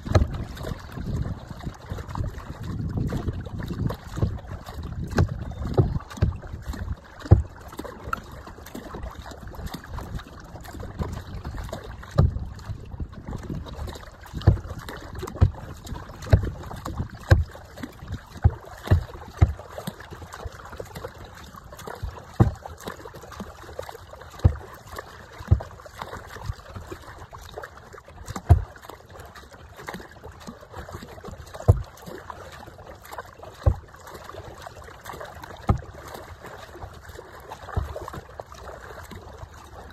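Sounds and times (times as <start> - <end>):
steady wash of water: 0.0 - 39.9
water slapping kayak hull: 0.0 - 39.9.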